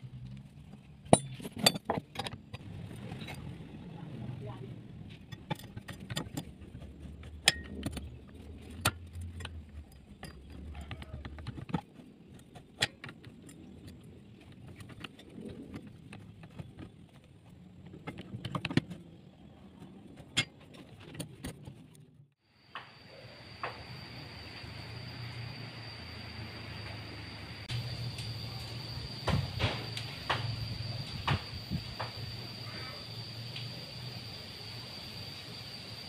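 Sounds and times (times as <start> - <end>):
low motor hum: 2.3 - 21.0, 21.6 - 36.0.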